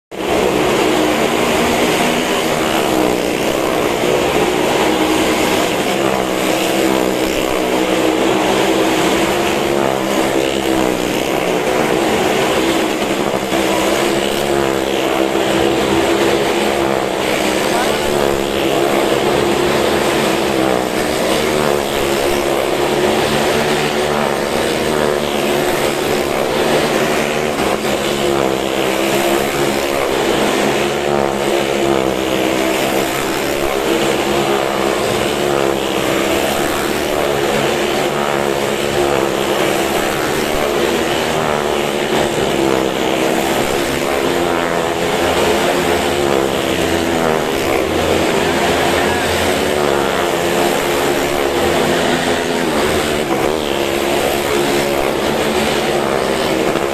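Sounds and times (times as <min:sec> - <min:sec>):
vehicle engines racing: 0:00.1 - 0:56.9.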